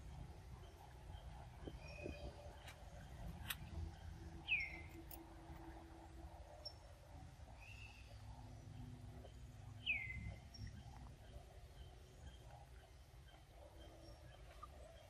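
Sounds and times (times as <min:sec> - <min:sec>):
faint forest background: 0:00.0 - 0:15.0.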